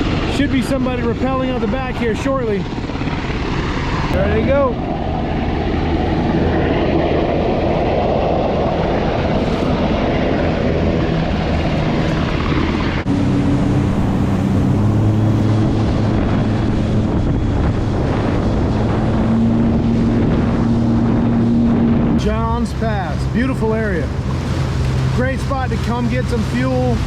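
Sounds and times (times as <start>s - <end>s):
helicopter overhead: 0.0s - 27.0s
jet ski engine running: 0.0s - 27.0s
water noise: 0.0s - 27.0s
wind: 0.0s - 27.0s.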